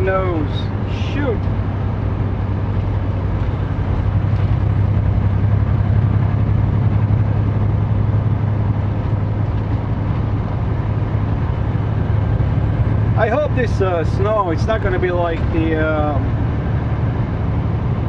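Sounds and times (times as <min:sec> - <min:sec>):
road noise: 0:00.0 - 0:18.0
truck diesel engine drone: 0:00.0 - 0:18.0.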